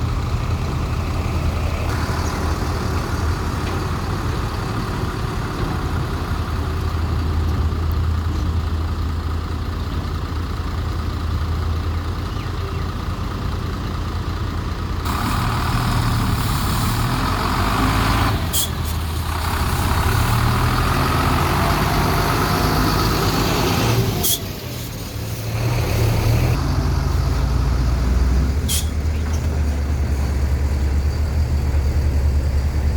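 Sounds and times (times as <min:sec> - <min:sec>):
diesel excavator engine: 0:00.0 - 0:32.9.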